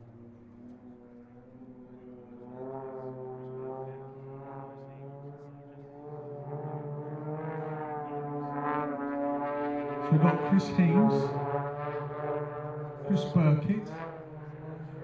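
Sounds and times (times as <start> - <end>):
propeller planes droning overhead: 0.0 - 15.0.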